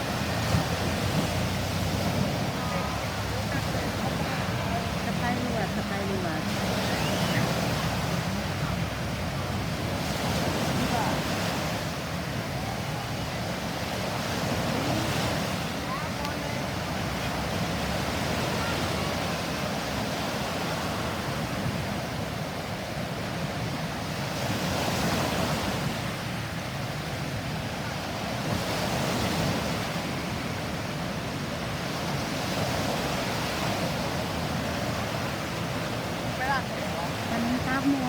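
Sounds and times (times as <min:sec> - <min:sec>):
sea surf washing in: 0:00.0 - 0:38.0.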